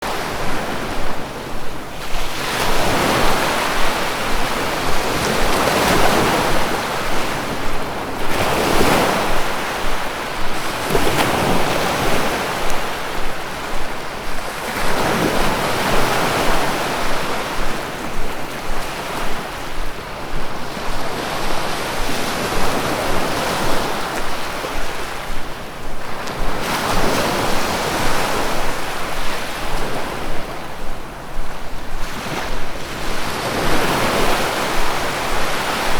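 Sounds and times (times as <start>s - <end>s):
ocean waves breaking: 0.0s - 35.9s.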